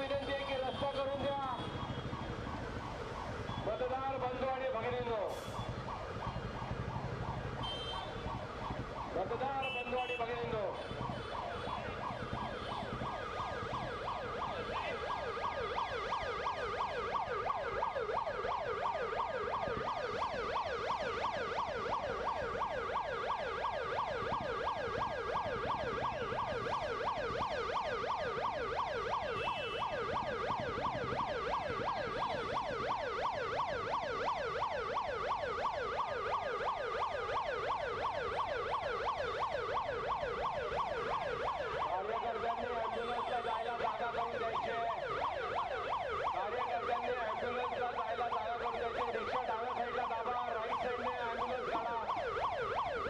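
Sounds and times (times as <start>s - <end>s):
ambulance siren yelping: 0.0s - 53.0s.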